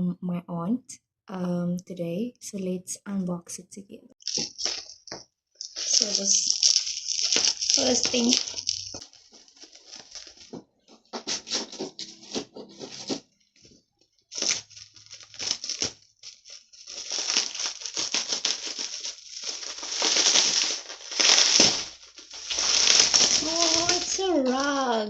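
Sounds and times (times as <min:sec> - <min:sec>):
packaging rustling and tearing: 0:04.2 - 0:25.0.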